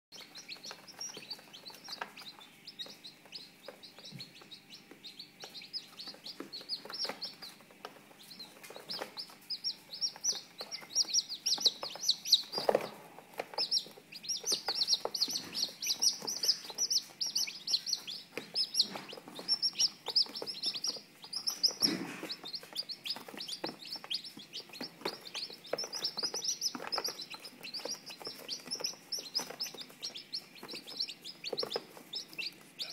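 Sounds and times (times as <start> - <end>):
chicks peeping: 0.1 - 32.9.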